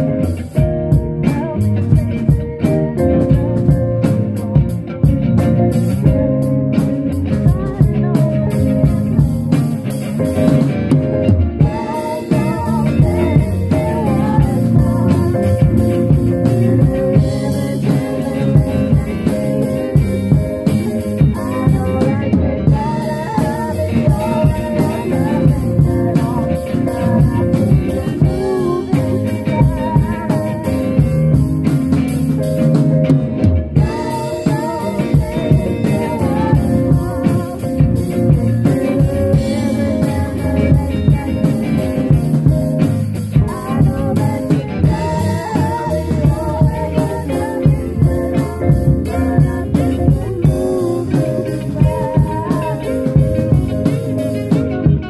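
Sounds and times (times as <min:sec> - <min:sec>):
person singing: 0:00.0 - 0:10.6, 0:11.5 - 0:32.8, 0:33.7 - 0:55.0
drum kit beat: 0:00.0 - 0:55.0
electric guitar: 0:00.0 - 0:55.0.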